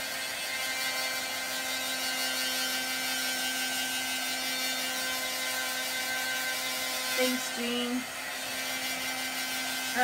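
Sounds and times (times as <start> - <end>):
blow dryer running: 0.0 - 10.0.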